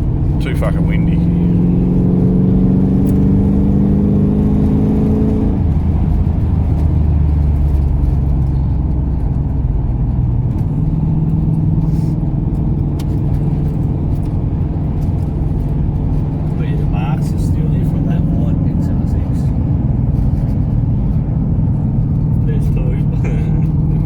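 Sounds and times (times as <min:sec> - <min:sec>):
car engine pulling under load: 0:00.0 - 0:24.0.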